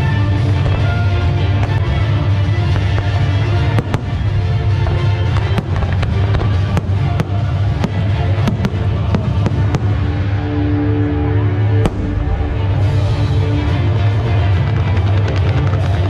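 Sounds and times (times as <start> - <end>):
loud music with strong bass: 0.0 - 16.0.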